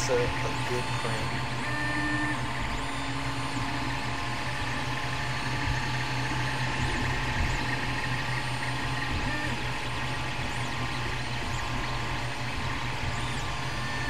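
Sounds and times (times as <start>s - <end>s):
cooling fans humming: 0.0s - 14.0s
stepper motors whining: 0.0s - 14.0s.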